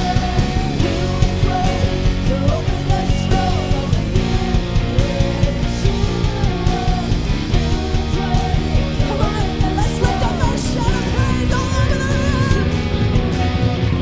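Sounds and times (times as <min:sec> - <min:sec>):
worship band playing: 0:00.0 - 0:14.0.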